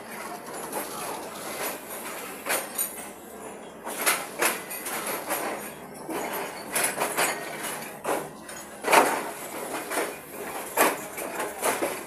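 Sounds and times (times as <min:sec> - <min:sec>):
train coach rattling and clanking: 0:00.0 - 0:12.0.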